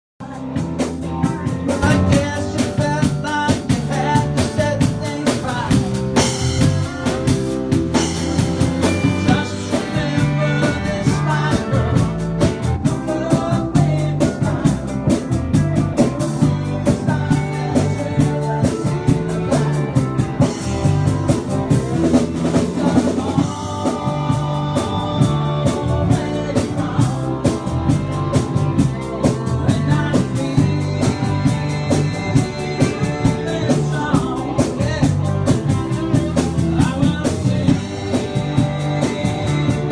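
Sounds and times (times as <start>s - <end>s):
digital piano: 0.2s - 39.9s
drum kit beat: 0.2s - 39.9s
guitar: 0.2s - 39.9s
man singing: 0.2s - 39.9s.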